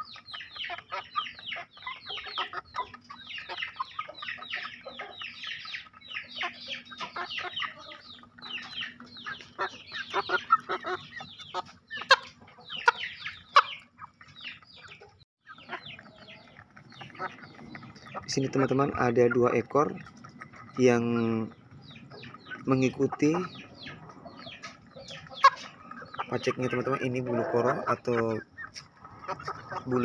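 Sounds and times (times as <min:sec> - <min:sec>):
beaks tapping on paving stones: 0:00.0 - 0:30.0
chicks peeping: 0:00.0 - 0:30.0.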